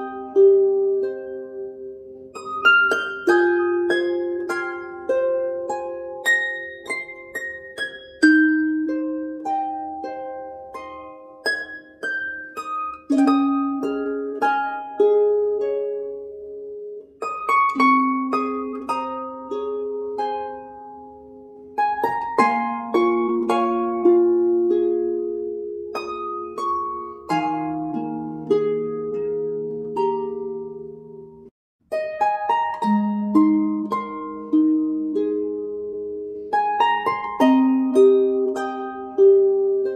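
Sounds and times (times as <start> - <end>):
plucked-string melody: 0.0 - 39.9.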